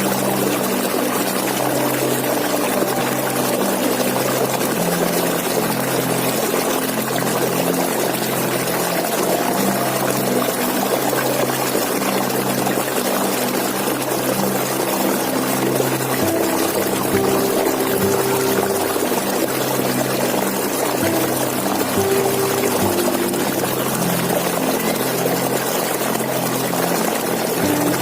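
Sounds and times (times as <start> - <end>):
waterfall hissing: 0.0 - 28.0.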